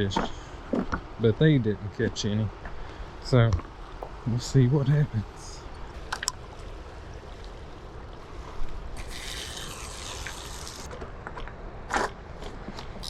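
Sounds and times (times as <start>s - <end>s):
river water trickling and lapping: 0.2s - 13.0s.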